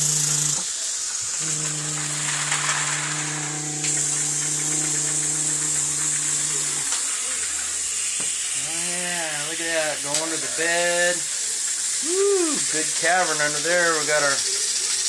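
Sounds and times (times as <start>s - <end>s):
high hiss: 0.0s - 15.0s
toy train electric motor hum: 0.0s - 15.0s.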